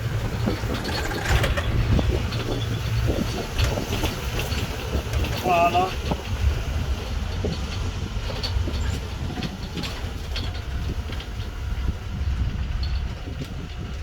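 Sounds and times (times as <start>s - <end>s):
rattles and knocks: 0.0s - 14.0s
vehicle rumbling on rough road: 0.0s - 14.0s.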